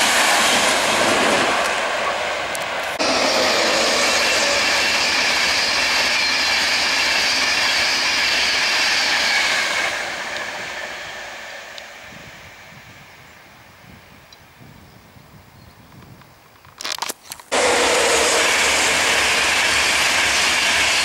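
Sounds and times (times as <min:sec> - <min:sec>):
train passing at speed: 0:00.0 - 0:13.7, 0:17.5 - 0:21.0.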